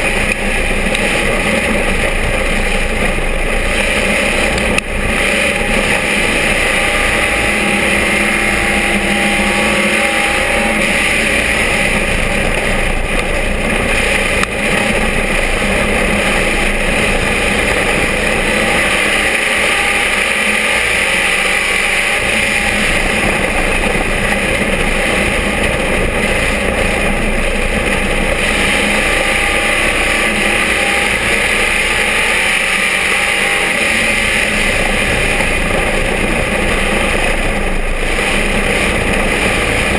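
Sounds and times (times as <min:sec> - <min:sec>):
race car engine at speed: 0:00.0 - 0:39.9
road noise: 0:00.0 - 0:39.9.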